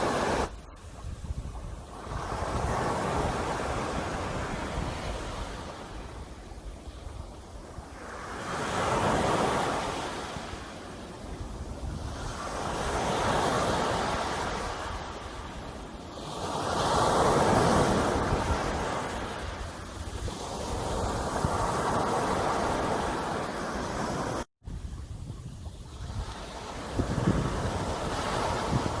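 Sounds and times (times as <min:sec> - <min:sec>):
sea waves breaking on shore: 0:00.0 - 0:24.5, 0:25.7 - 0:29.0.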